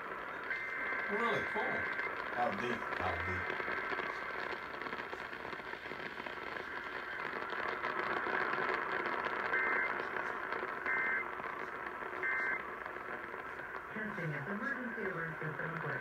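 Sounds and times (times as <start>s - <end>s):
radio static hiss: 0.0s - 16.0s
two-tone data bursts: 0.0s - 16.0s.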